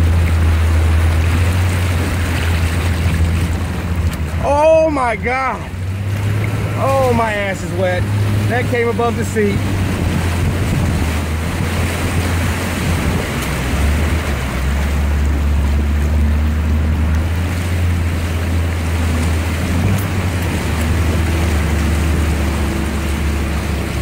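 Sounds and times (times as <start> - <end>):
car engine droning: 0.0 - 24.0
water sloshing against vehicle: 0.0 - 24.0.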